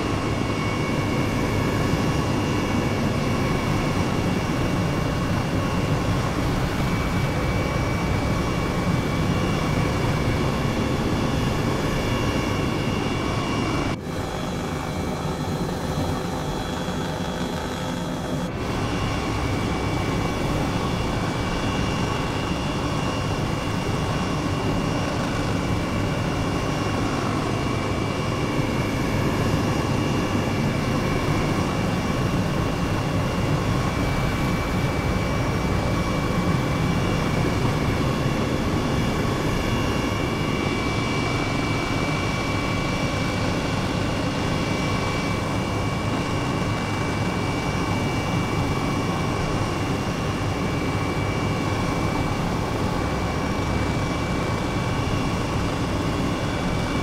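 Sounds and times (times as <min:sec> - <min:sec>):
helicopter rumble and whine: 0:00.0 - 0:57.0.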